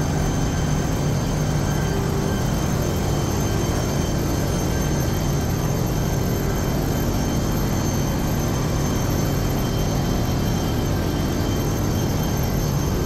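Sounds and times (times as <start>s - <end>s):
engine room machinery hum: 0.0s - 13.0s
faint high whine: 0.0s - 13.0s.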